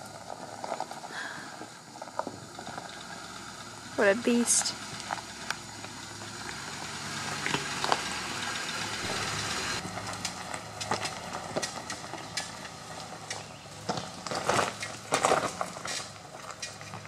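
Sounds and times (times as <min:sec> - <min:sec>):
engine running low: 0:00.0 - 0:17.0
tyres crunching over stones: 0:00.0 - 0:17.0.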